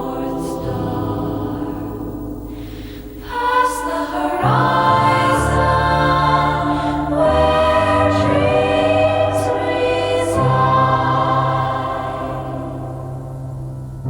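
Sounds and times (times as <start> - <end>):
choir singing sustained chords: 0.0 - 14.0.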